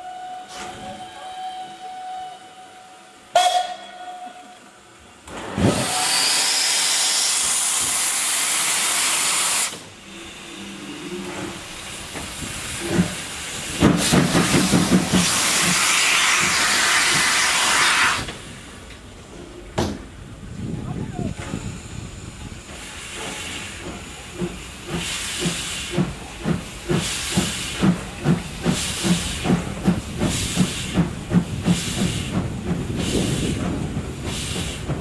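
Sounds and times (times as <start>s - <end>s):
steam locomotive venting steam: 0.0s - 3.8s, 4.9s - 35.0s.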